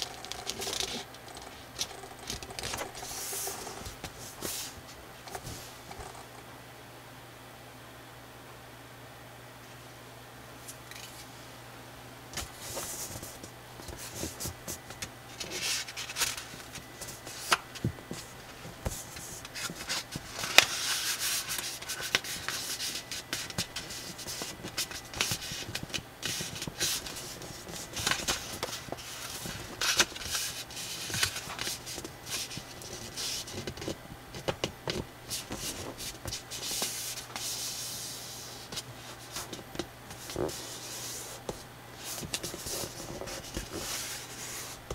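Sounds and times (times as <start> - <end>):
paper crackling: 0.0 - 6.2, 12.4 - 44.9
paper folding and rubbing: 0.0 - 6.2, 12.4 - 44.9.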